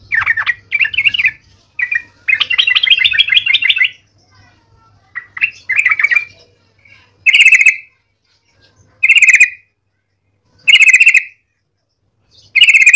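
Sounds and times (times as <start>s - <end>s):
bulbul chattering song: 0.0s - 12.9s.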